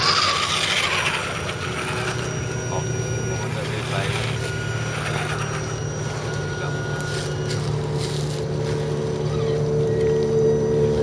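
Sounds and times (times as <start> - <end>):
electric motors whining: 0.0 - 11.0
higher-pitched motor whine: 0.0 - 11.0.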